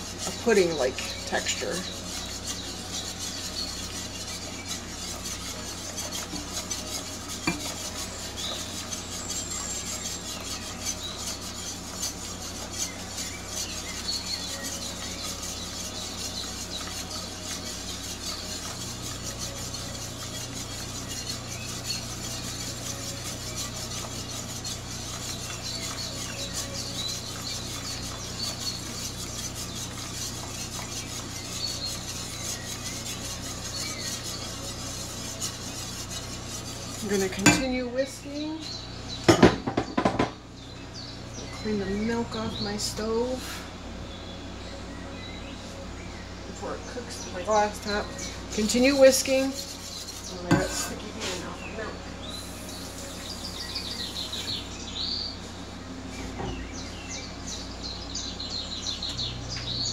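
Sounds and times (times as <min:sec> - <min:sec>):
whisk scraping a steel saucepan: 0:00.0 - 0:40.3, 0:41.6 - 0:43.6, 0:46.6 - 0:55.5.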